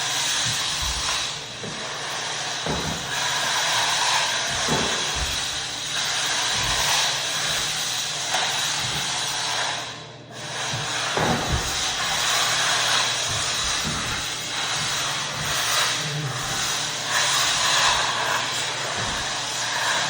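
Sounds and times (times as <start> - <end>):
floor buffer whirring: 0.0 - 20.0.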